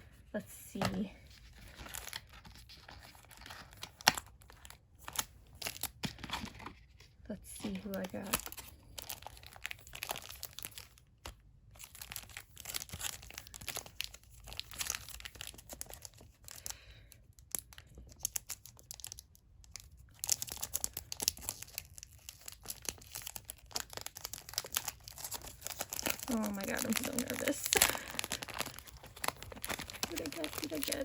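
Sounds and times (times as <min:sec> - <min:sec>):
wrapping crinkling and tearing: 0:00.8 - 0:31.0.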